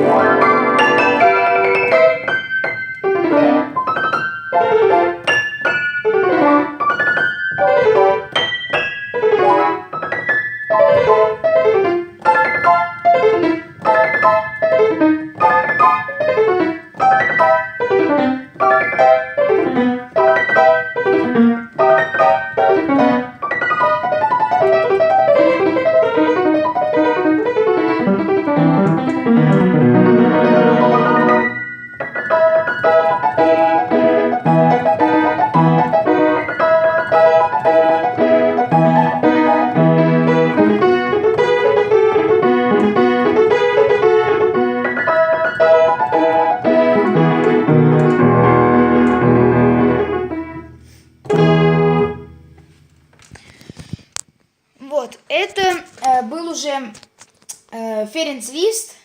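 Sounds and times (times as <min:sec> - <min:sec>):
fast solo piano: 0:00.0 - 0:52.4.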